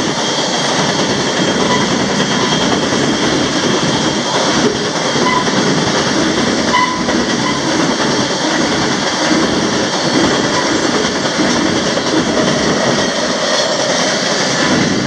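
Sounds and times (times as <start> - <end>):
freight train rumble and rattle: 0.0 - 15.0.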